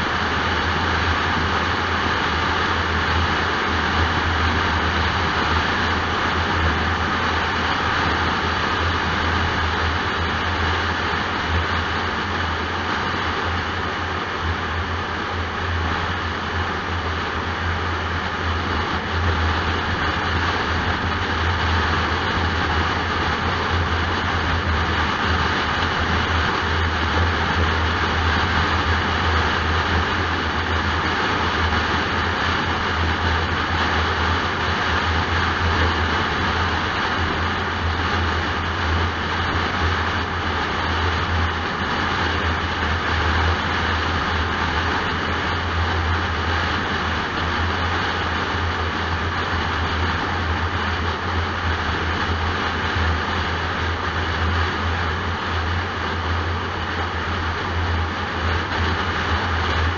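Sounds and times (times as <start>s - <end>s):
car engine low hum: 0.0s - 59.9s.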